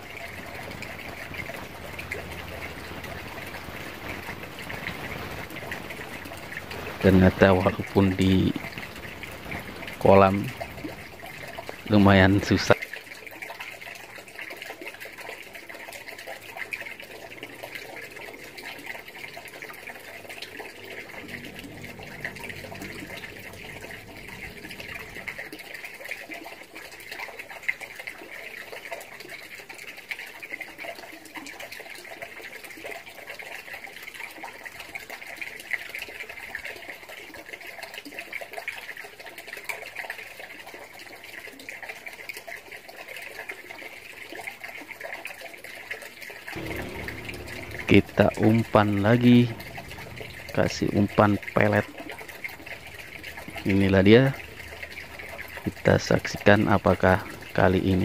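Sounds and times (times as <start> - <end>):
water trickling into pond: 0.0 - 58.0.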